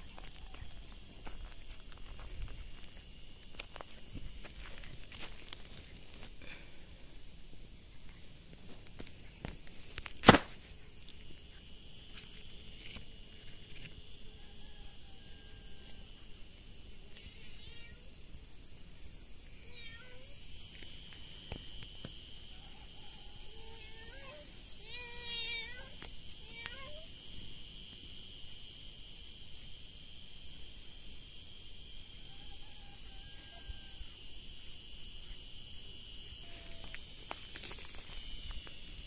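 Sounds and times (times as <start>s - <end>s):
insects shrilling: 0.0s - 39.0s.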